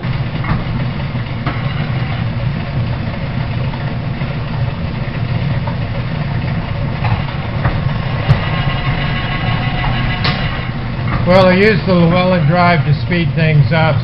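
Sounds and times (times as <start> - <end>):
metal planer humming: 0.0 - 14.0.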